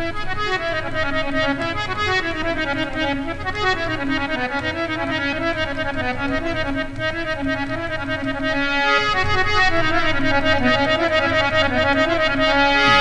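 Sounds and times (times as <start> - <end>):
harmonium melody: 0.0 - 13.0.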